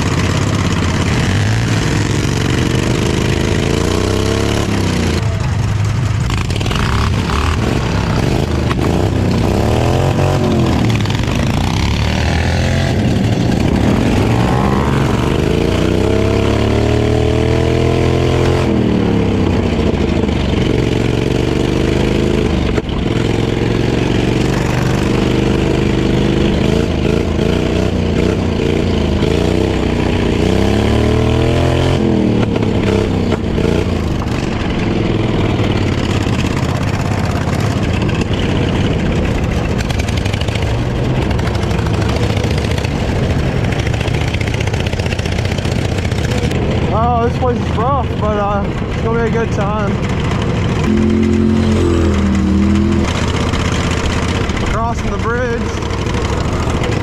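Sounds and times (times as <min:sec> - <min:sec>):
lawnmower engine revving: 0:00.0 - 0:57.0.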